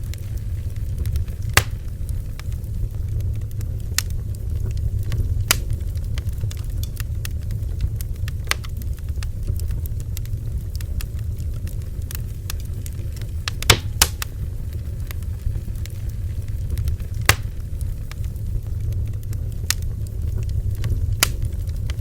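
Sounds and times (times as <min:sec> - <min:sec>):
bonfire crackling and popping: 0:00.0 - 0:22.0
low rumble: 0:00.0 - 0:22.0.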